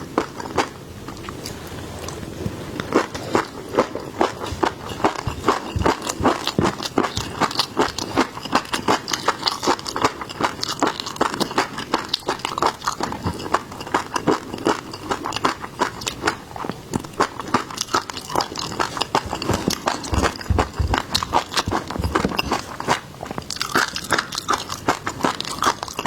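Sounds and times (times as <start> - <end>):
chewing with wet crunches: 0.0 - 26.0.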